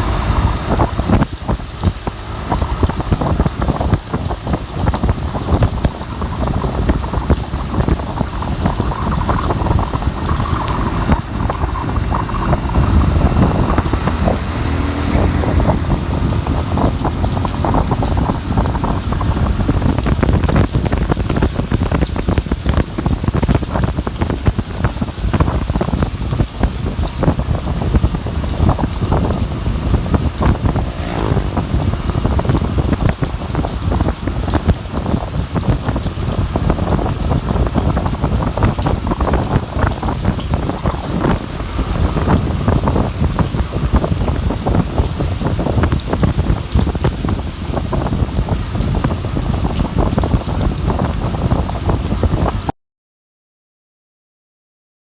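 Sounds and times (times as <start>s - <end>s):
rain falling: 0.0s - 52.7s
wind rumbling: 0.0s - 52.7s.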